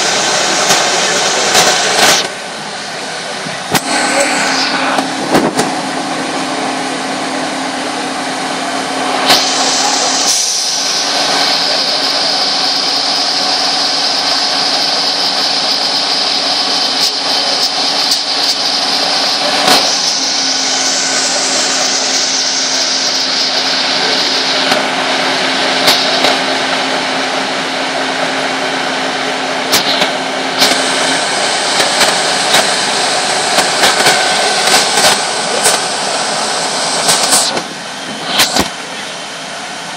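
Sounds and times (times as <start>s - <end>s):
fire engine humming: 0.0s - 39.9s
high whine: 0.0s - 39.9s.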